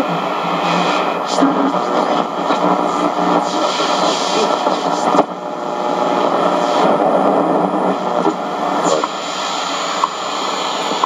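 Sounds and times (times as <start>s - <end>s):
shortwave radio static and hiss: 0.0s - 11.0s.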